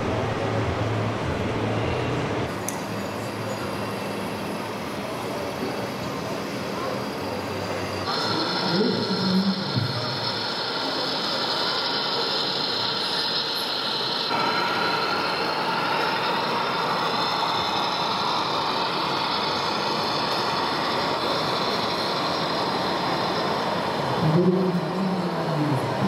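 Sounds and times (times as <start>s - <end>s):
busy exhibition hall noise: 0.0s - 26.0s
model truck running: 0.0s - 26.0s.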